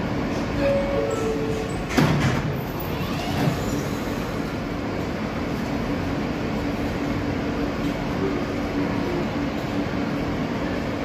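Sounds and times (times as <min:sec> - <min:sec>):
subway train equipment hum: 0:00.0 - 0:11.0.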